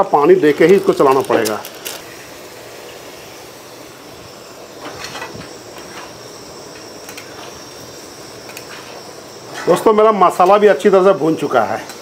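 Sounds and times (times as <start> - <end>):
curry hissing in a pan: 0.0 - 12.0.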